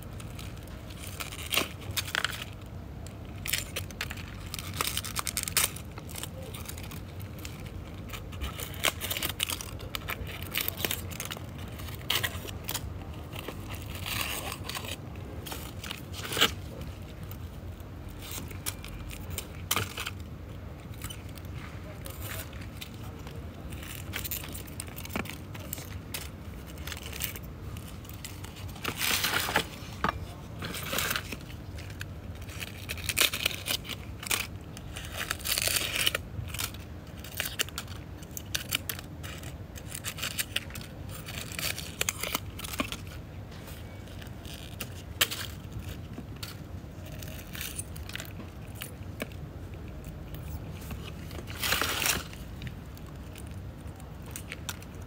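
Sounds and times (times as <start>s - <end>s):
dry leaves crackling and rustling: 0.0s - 55.0s.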